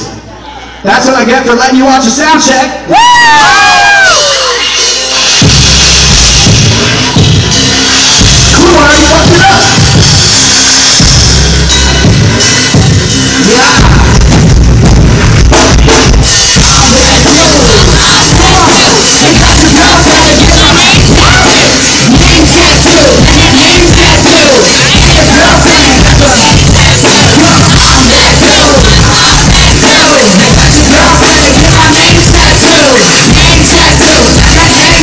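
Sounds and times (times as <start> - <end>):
hip-hop beat over loudspeakers: 4.3 - 35.0.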